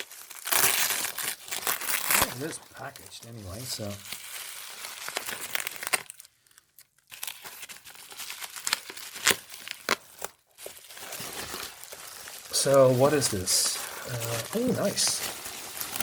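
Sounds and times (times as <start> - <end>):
packing material crinkling: 0.0 - 16.0.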